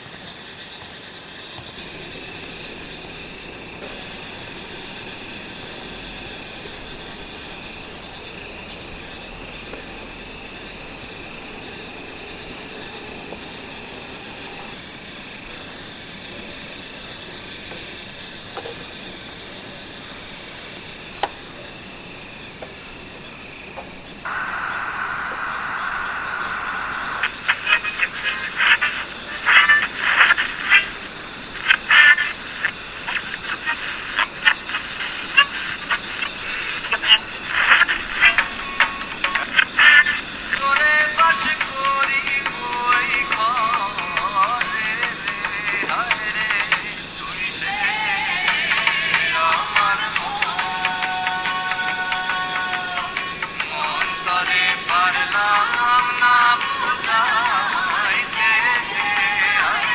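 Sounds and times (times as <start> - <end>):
insects trilling: 0.0 - 59.9
rapid pulsing frog calls: 0.2 - 59.9.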